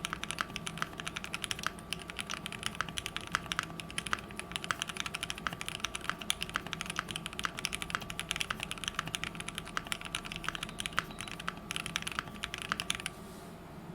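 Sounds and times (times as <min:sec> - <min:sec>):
mechanical keyboard typing: 0:00.0 - 0:13.1.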